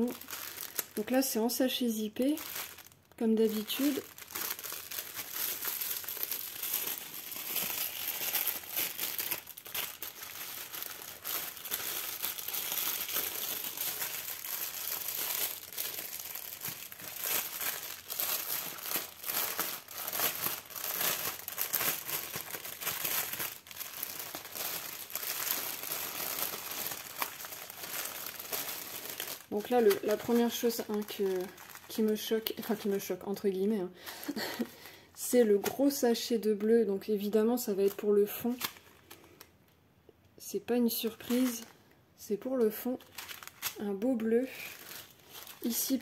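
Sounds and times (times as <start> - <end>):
plastic bags crinkling: 0.0 - 39.5, 41.0 - 41.8, 42.6 - 46.0.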